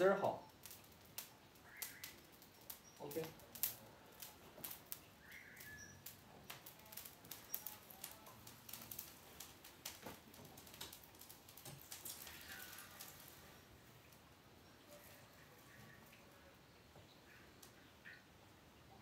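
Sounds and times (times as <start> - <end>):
twigs crackling in fire: 0.0 - 19.0.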